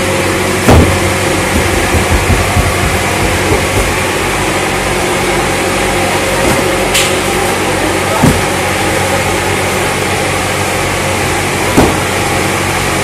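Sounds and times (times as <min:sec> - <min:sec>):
machine humming drone: 0:00.0 - 0:13.0.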